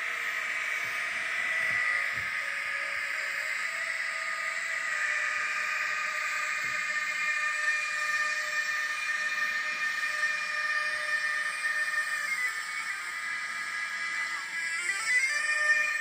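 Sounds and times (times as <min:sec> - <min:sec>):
electric whine of model locomotive: 0:00.0 - 0:16.0.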